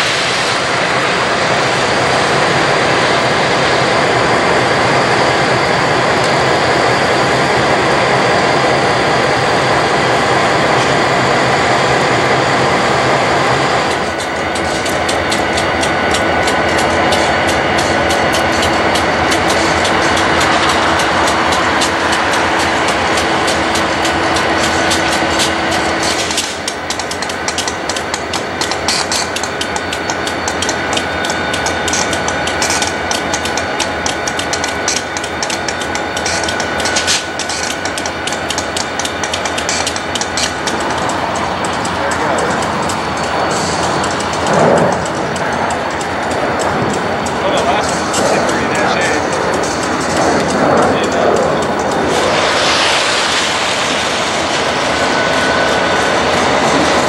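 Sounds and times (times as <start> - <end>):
diesel locomotive engine: 0.0 - 57.0
train wheels clacking on track: 0.0 - 57.0.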